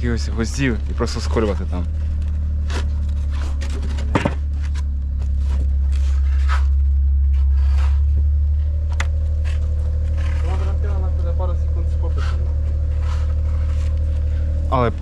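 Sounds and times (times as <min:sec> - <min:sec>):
engine running drone: 0:00.0 - 0:15.0
knocks and scrapes of building work: 0:00.2 - 0:15.0.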